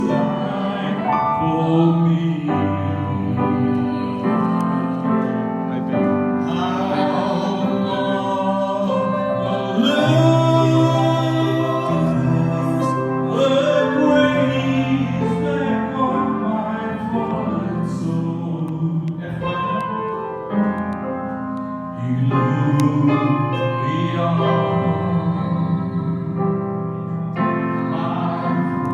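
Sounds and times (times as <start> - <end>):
man singing: 0.0 - 20.7, 21.9 - 28.9
keyboard chords: 0.0 - 28.9.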